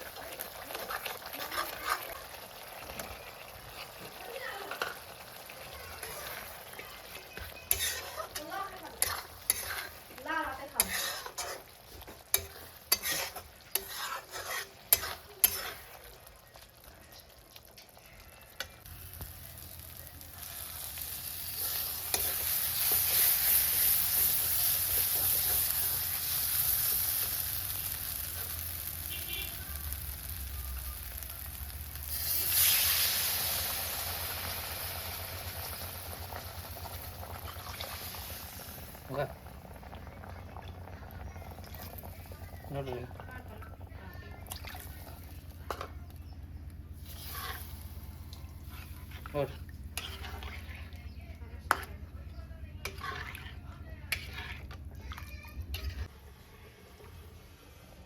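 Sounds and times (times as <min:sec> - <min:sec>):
utensil scraping cooking pan: 0:00.0 - 0:30.4, 0:31.1 - 0:56.1
food sizzling in hot oil: 0:00.0 - 0:52.0, 0:52.8 - 0:56.1.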